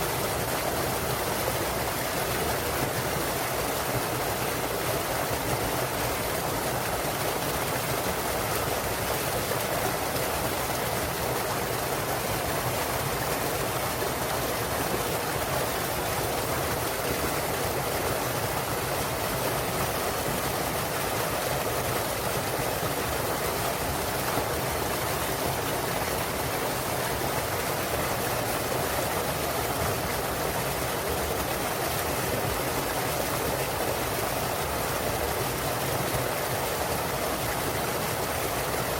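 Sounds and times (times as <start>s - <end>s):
waterfall splashing and rushing: 0.0s - 38.9s.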